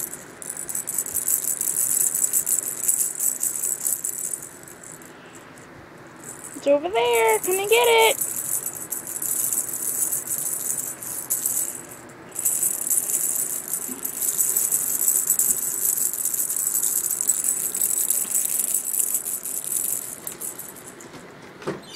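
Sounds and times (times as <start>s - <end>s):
cat toy rattling: 0.0s - 5.6s, 6.2s - 21.1s.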